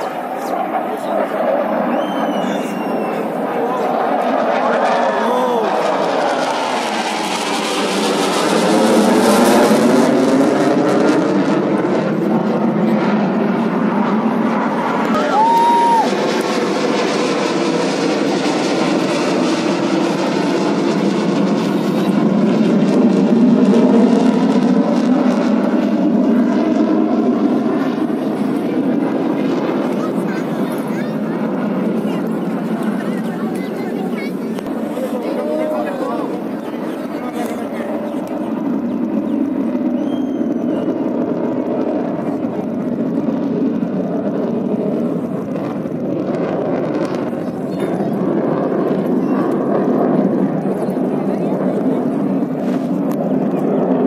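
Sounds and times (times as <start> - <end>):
jet engines roaring overhead: 0.0 - 54.0.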